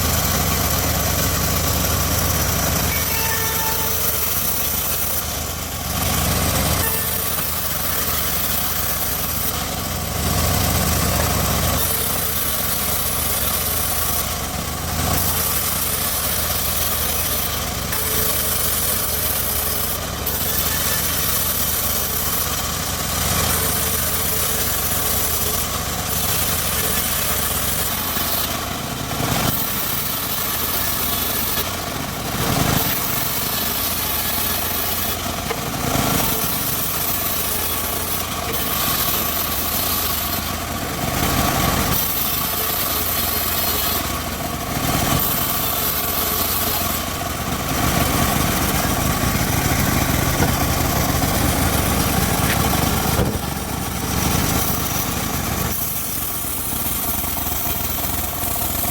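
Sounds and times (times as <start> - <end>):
sawmill engine and saw drone: 0.0 - 58.9.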